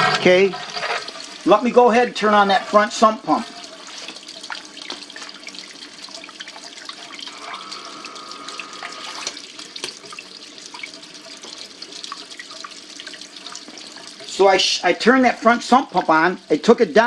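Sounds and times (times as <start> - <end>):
sump pump running: 0.0 - 16.3.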